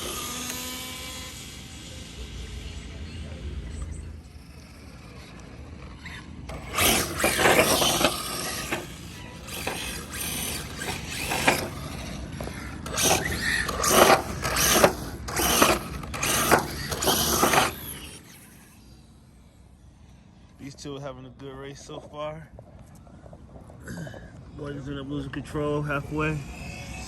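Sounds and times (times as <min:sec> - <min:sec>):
remote control cars rasping bursts: 0:00.0 - 0:20.6, 0:24.8 - 0:27.0.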